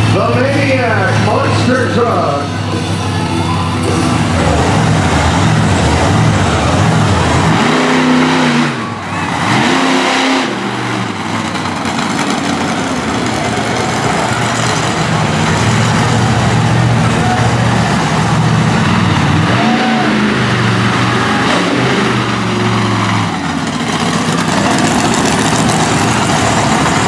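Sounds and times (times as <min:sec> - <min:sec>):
truck engine revving loudly: 0:03.7 - 0:27.0.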